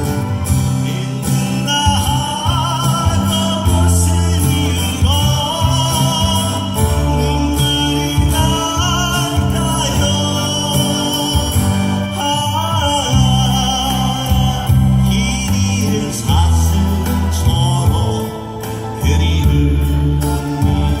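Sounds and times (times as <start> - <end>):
backing track with bass: 0.0 - 21.0
person singing with vibrato: 0.0 - 21.0.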